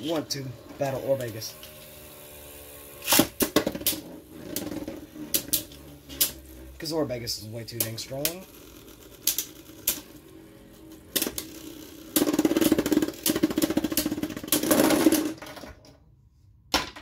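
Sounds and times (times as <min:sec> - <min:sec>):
spinning tops clattering: 0:00.0 - 0:06.7, 0:07.5 - 0:15.7
spinning tops clacking: 0:00.0 - 0:15.6.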